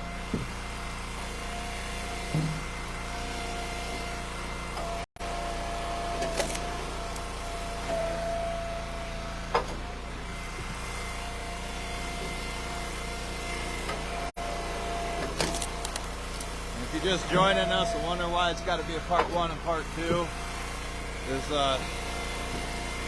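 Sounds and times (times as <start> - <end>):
wood splitter engine running: 0.0 - 23.0.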